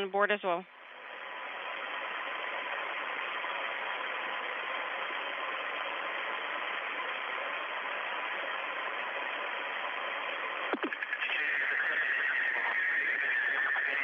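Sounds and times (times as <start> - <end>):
radio static hiss: 0.1 - 14.0.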